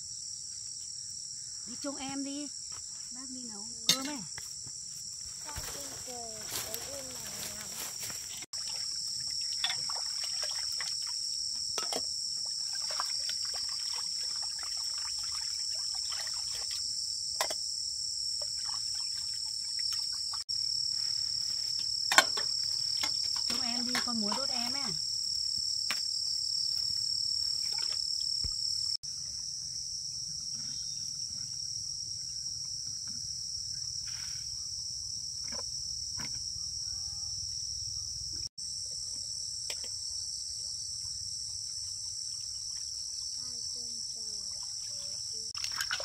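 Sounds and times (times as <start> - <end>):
night insects trilling: 0.0 - 46.0.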